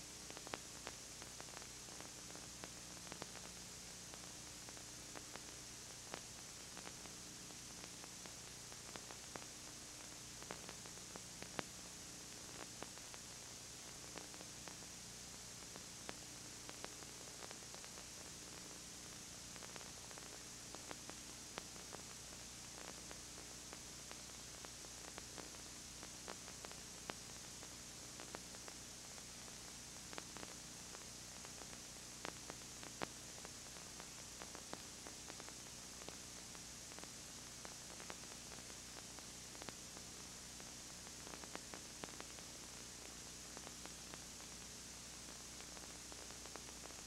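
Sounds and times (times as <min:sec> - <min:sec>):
faint clicks and crackles: 0:00.0 - 0:47.0
low electrical hum: 0:00.0 - 0:47.0
tape hiss: 0:00.0 - 0:47.0.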